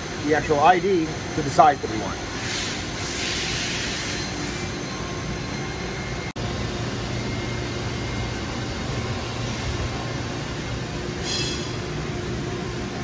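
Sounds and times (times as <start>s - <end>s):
machinery hiss and low hum: 0.0s - 13.0s.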